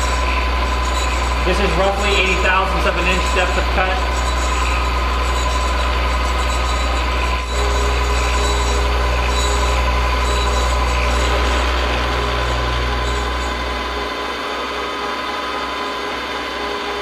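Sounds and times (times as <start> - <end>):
milling machine cutting metal: 0.0 - 17.0.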